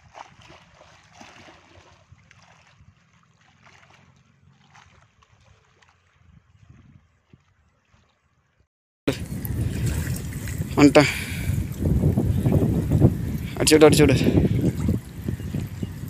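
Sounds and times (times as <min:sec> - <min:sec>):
wind rumble on microphone: 0:00.0 - 0:03.1, 0:04.9 - 0:07.8, 0:09.1 - 0:16.0
small waves lapping: 0:00.0 - 0:16.0.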